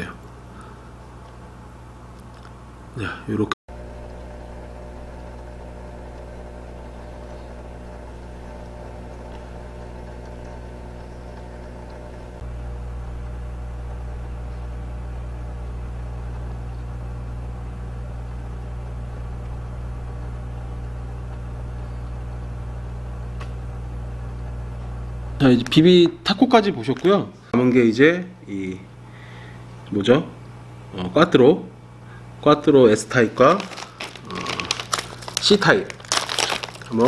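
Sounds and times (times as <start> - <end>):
aquarium pump humming: 0.0 - 27.2, 28.4 - 37.0.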